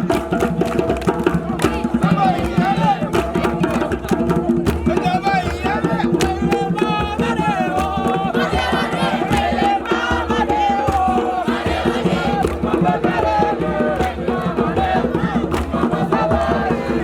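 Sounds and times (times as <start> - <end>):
group singing a chant: 0.0 - 17.0
percussion beats: 0.0 - 17.0.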